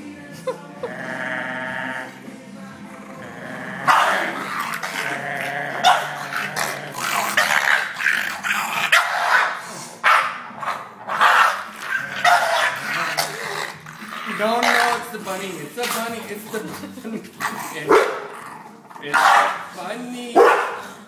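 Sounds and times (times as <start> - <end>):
dog growling and barking: 0.8 - 2.2, 2.8 - 19.8, 20.4 - 21.0.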